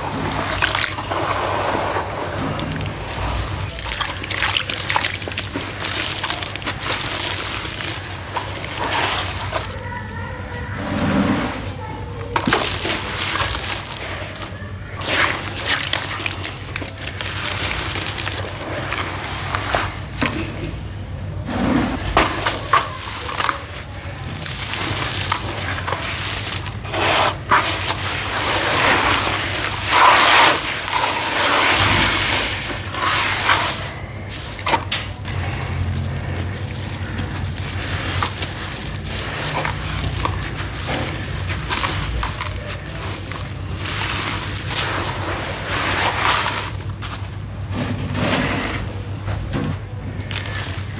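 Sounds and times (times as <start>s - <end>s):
sawdust and sand splashing into water: 0.0s - 49.1s, 50.2s - 50.9s.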